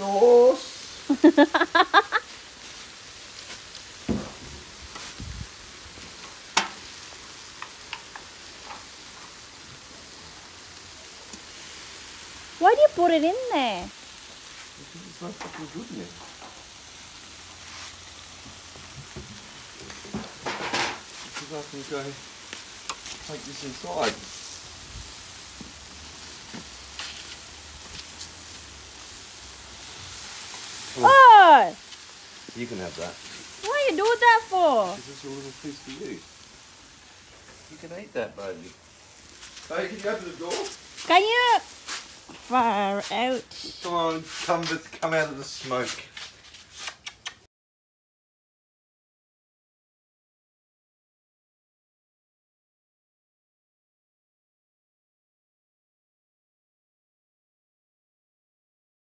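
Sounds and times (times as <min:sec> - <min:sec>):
meat sizzling on a grill: 0:00.0 - 0:47.3.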